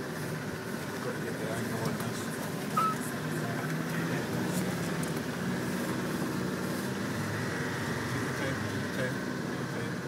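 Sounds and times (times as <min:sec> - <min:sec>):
vehicle engine running at low speed: 0:00.0 - 0:10.0.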